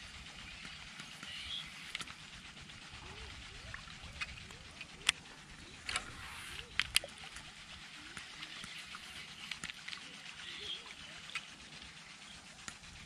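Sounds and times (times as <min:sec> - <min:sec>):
faint outdoor pond ambience: 0:00.0 - 0:13.0.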